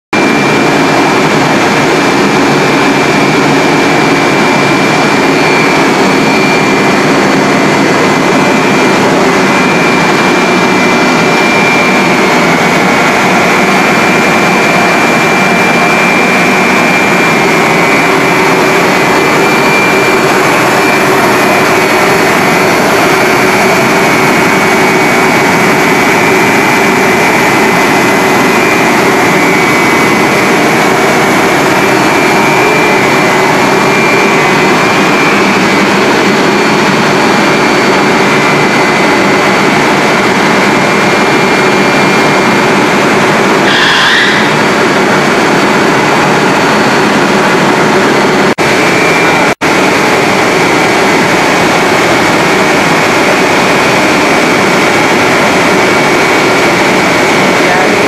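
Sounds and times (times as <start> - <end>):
loud steady machine noise: 0.1 - 58.0
high-pitched whine: 0.2 - 58.0.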